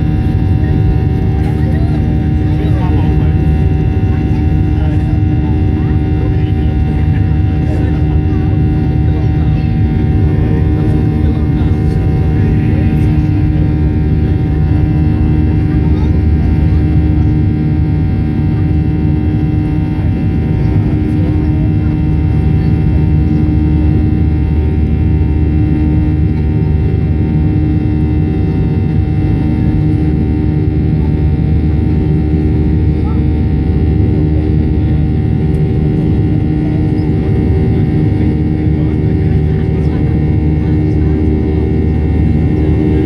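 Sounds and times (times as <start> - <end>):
jet engines rumbling in cabin: 0.0 - 43.0
steady humming tones: 0.0 - 43.0.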